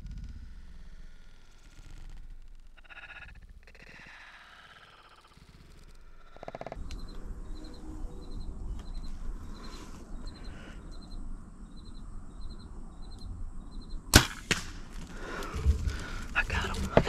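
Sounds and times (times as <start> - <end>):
cricket chirping: 0.0 - 17.0
low rumble: 0.0 - 17.0.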